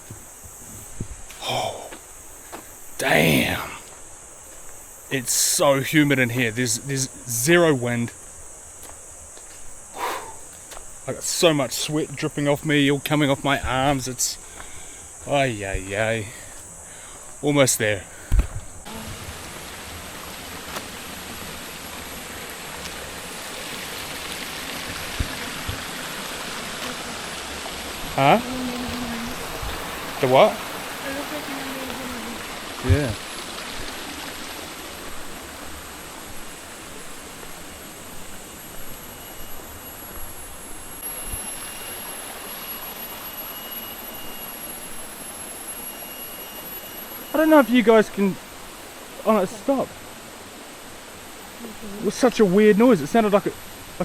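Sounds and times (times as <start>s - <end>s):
high-pitched insect drone: 0.0s - 54.0s
stream water rushing: 0.0s - 54.0s.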